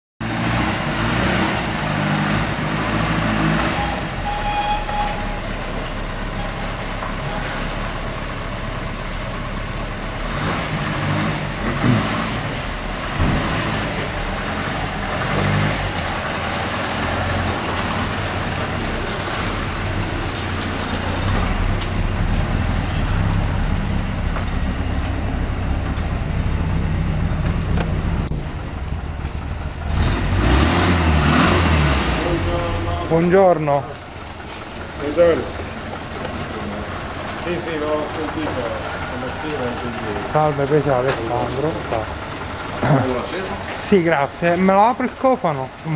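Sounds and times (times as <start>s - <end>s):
road traffic noise: 0.2s - 45.9s
vehicle engine running: 0.2s - 45.9s.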